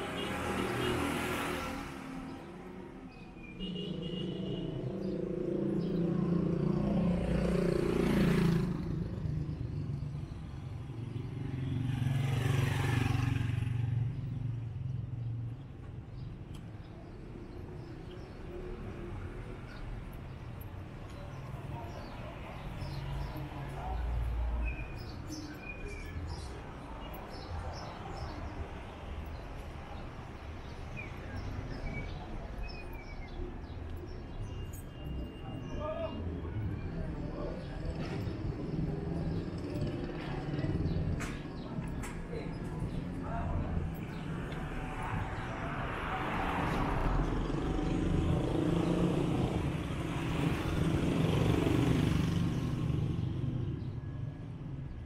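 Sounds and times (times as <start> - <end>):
street rumble and noise: 0.0 - 55.0.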